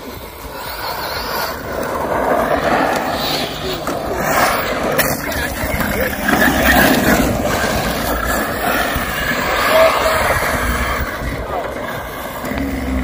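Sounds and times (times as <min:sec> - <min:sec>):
electric motors whining: 0:00.0 - 0:13.0
tyres on loose dirt: 0:00.0 - 0:13.0.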